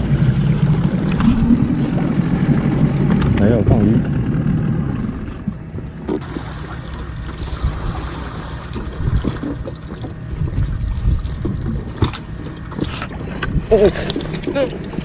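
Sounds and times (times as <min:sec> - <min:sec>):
wind buffeting microphone: 0:00.0 - 0:06.2, 0:08.7 - 0:15.0.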